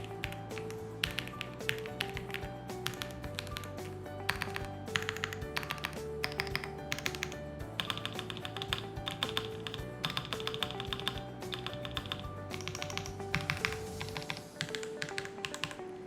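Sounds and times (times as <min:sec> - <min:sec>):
background music: 0:00.0 - 0:16.0
mechanical keyboard typing: 0:00.0 - 0:16.0.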